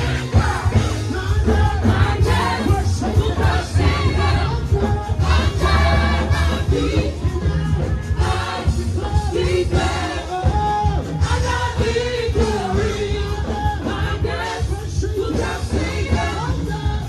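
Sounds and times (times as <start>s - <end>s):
band with heavy bass: 0.0s - 17.0s
choir singing: 0.0s - 17.0s.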